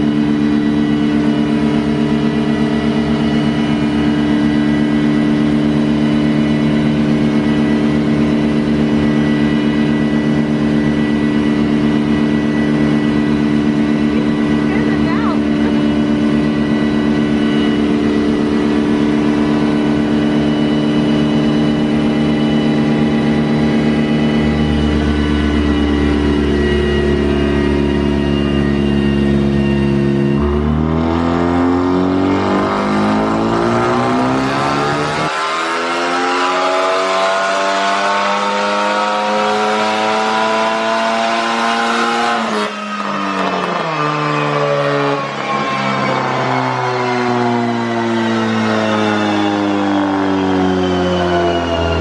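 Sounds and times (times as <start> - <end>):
car engine on dyno: 0.0 - 52.0.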